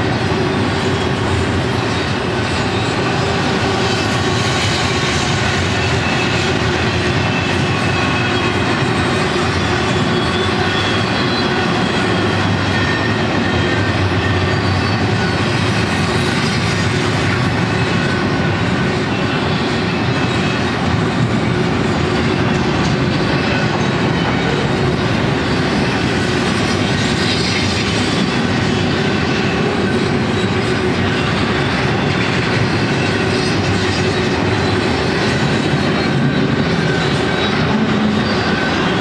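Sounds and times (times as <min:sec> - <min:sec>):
freight train wheels rumbling: 0:00.0 - 0:39.0
faint wheel squeal: 0:00.5 - 0:39.0.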